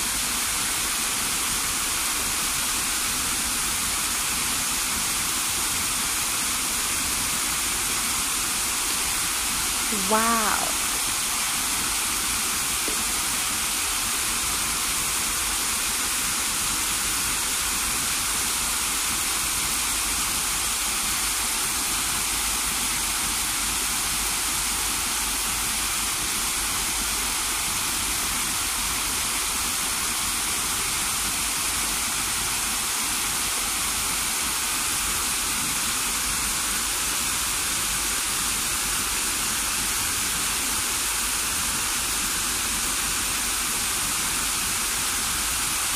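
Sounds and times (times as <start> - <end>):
waterfall rushing: 4.0 - 45.9.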